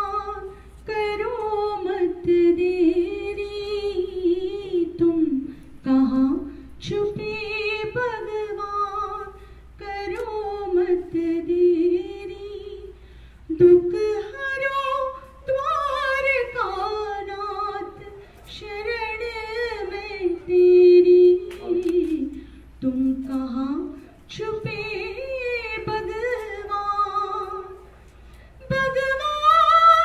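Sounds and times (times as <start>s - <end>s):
woman singing a slow prayer song: 0.0s - 27.9s, 28.6s - 30.0s.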